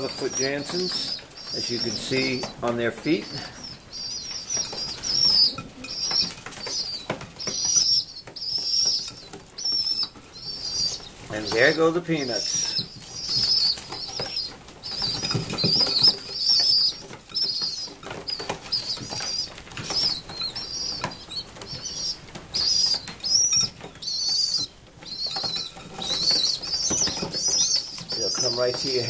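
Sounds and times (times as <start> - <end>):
beak taps: 0.0 - 29.0
young pigeons squeaking: 0.0 - 29.0.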